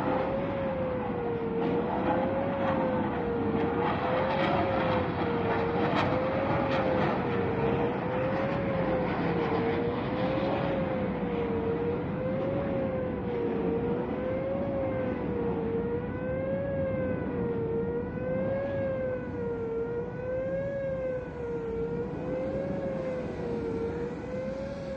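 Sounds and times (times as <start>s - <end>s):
wavering warning siren: 0.0s - 24.9s.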